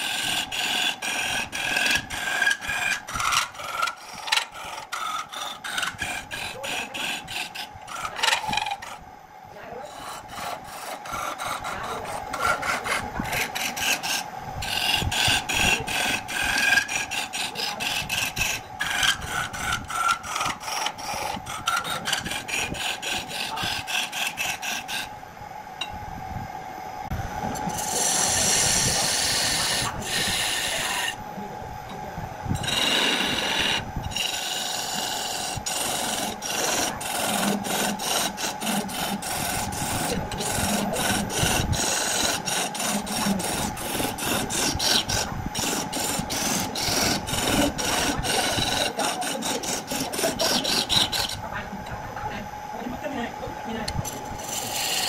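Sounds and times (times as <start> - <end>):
turning tool scraping wood: 0.0 - 9.0, 9.7 - 25.1, 27.5 - 31.2, 32.5 - 52.0, 53.8 - 55.0
wood lathe humming: 0.0 - 9.0, 9.6 - 25.2, 27.4 - 31.3, 31.9 - 55.0.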